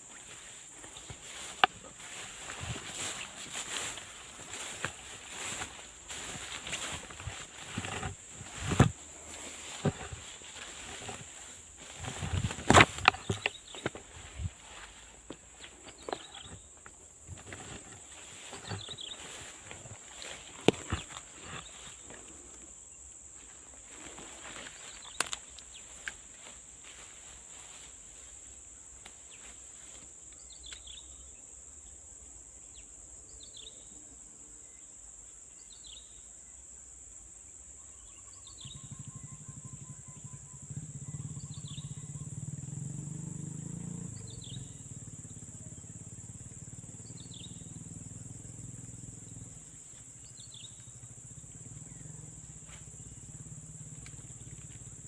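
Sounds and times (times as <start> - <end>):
high-pitched insect drone: 0.0 - 28.6, 37.8 - 55.0.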